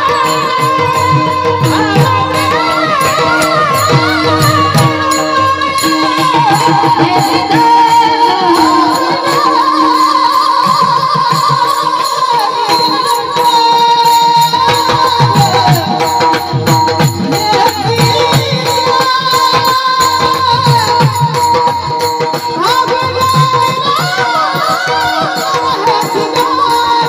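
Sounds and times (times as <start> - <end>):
person singing: 0.0 - 27.0.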